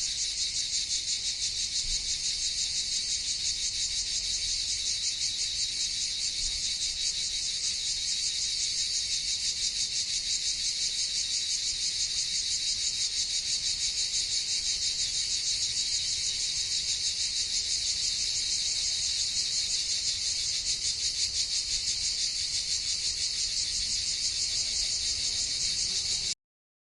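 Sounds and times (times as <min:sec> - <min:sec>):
cicadas buzzing: 0:00.0 - 0:26.4.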